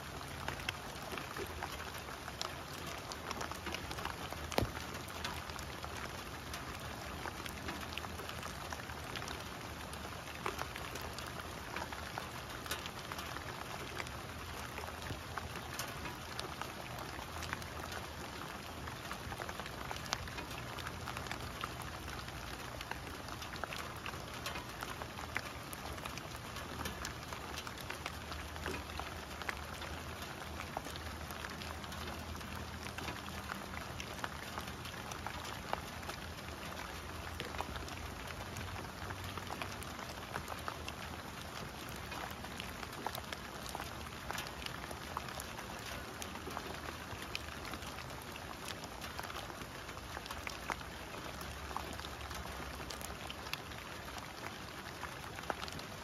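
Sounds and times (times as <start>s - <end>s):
rain on leaves and grass: 0.0s - 56.0s
raindrops ticking: 0.0s - 56.0s.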